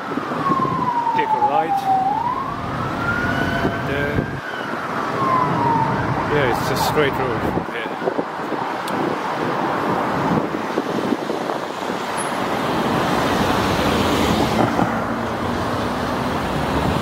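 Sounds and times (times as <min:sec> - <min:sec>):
cars passing on busy road: 0:00.0 - 0:17.0.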